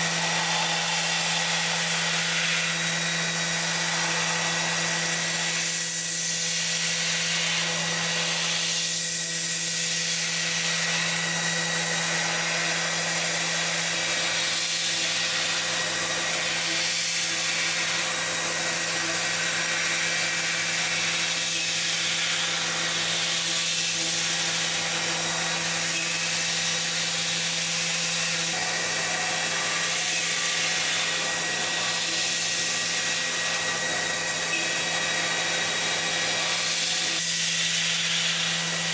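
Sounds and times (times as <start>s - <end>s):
machine hiss: 0.0s - 38.9s
machine motor hum: 0.0s - 38.9s.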